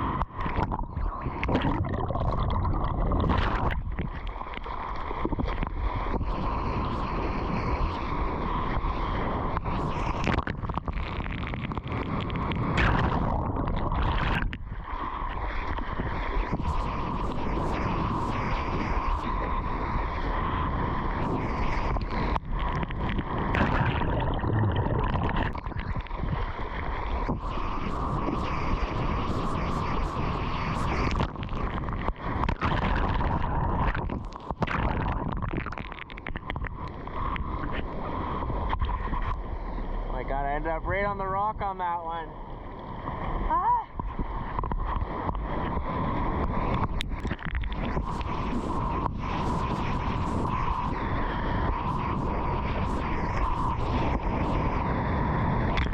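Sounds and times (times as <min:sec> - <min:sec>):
wind buffeting microphone: 0:00.0 - 0:41.6, 0:42.6 - 0:55.9
seawater rushing and splashing: 0:00.0 - 0:55.9.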